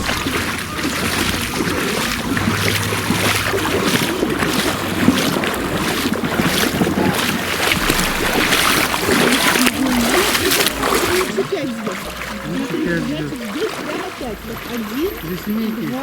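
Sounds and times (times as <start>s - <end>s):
wind buffeting microphone: 0.0s - 15.6s
sea noise: 0.0s - 16.0s.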